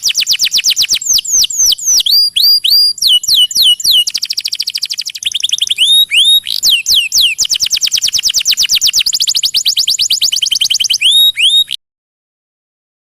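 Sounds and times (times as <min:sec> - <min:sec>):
canary singing: 0:00.0 - 0:11.8.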